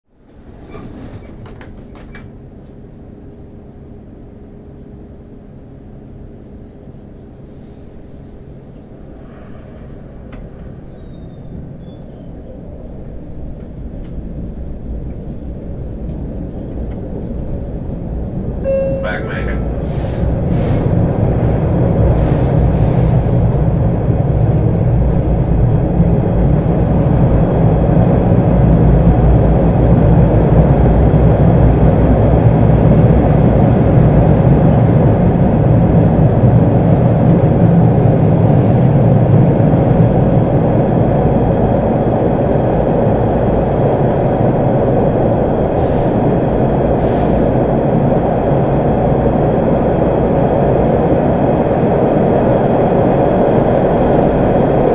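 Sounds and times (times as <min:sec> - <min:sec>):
subway car rumbling on rails: 0:00.0 - 0:54.9.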